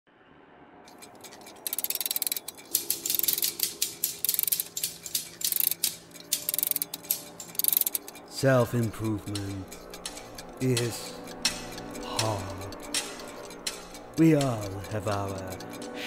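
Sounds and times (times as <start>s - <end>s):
rapid ratcheting clicks: 0.9s - 16.0s.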